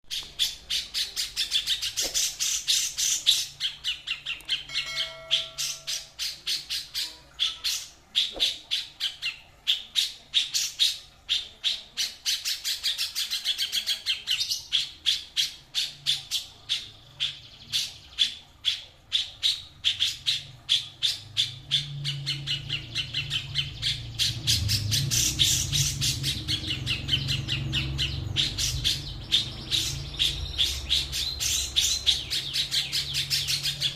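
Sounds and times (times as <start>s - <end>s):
songbird chirping: 0.0s - 33.9s.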